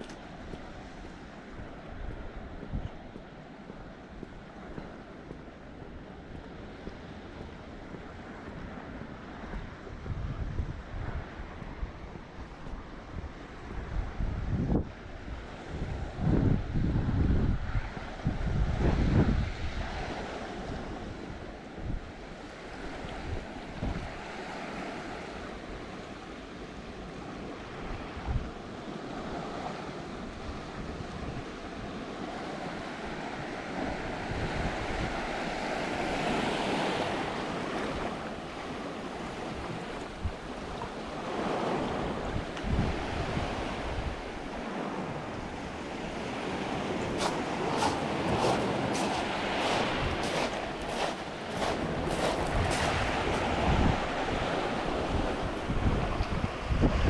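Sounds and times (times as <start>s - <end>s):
wind buffeting microphone: 0.0s - 24.3s, 33.4s - 57.0s
sea waves washing ashore: 0.0s - 57.0s.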